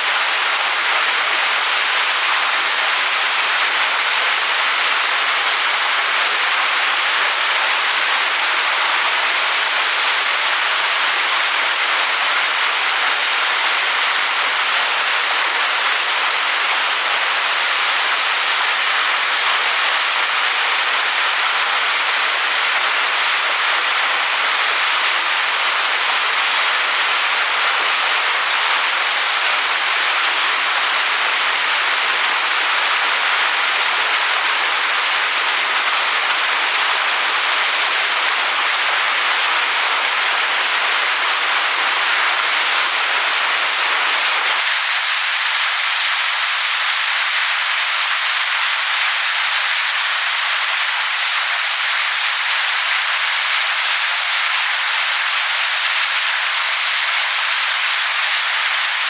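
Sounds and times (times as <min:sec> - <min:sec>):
waterfall splashing onto rocks: 0:00.0 - 0:59.0.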